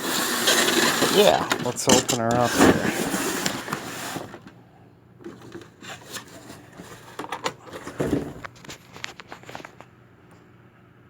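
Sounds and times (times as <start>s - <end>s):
cardboard box rustling and scraping: 0.0s - 4.5s, 5.2s - 9.7s.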